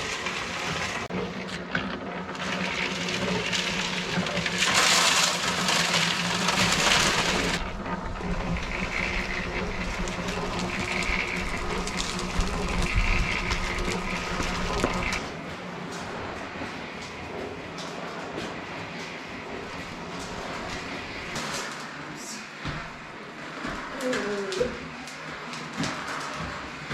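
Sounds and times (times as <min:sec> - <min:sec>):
concrete mixer running: 0:00.0 - 0:26.9.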